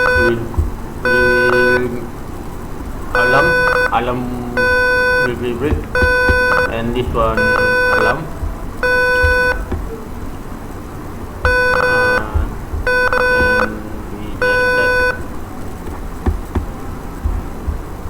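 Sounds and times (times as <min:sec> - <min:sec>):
electronic buzzer beeping: 0:00.0 - 0:02.0, 0:03.1 - 0:10.1, 0:11.4 - 0:17.9.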